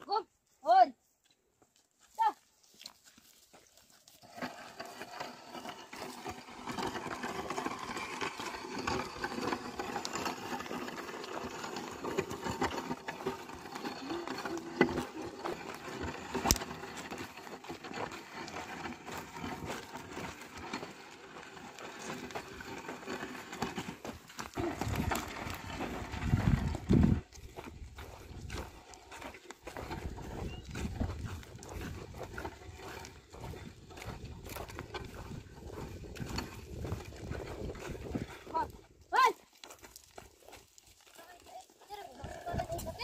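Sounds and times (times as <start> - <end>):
hooves stepping: 0.0 - 43.0
plough scraping earth: 2.0 - 43.0.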